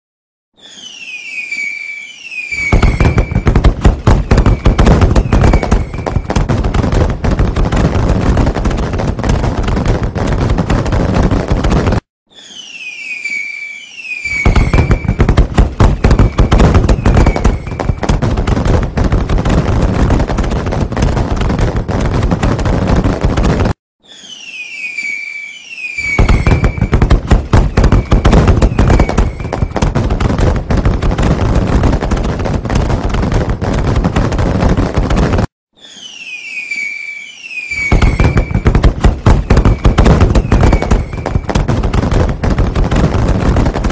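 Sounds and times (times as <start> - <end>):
fireworks whistling: 0.5 - 43.9
fireworks bangs and crackles: 0.6 - 43.9.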